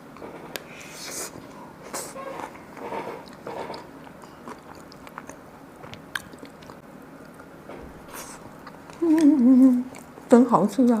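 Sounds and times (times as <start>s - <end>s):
person chewing food: 0.5s - 10.2s.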